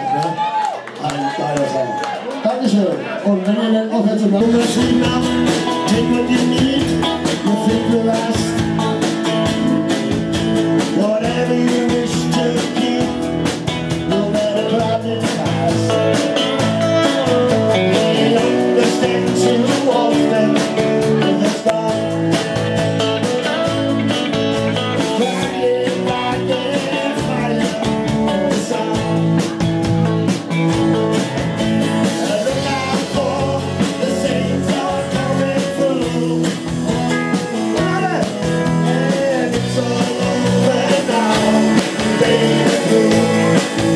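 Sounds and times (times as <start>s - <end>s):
bass guitar: 4.2s - 43.9s
drums: 4.2s - 43.9s
person singing: 4.4s - 30.2s, 32.0s - 43.9s
acoustic guitar: 4.4s - 43.9s
electric guitar: 4.4s - 43.9s.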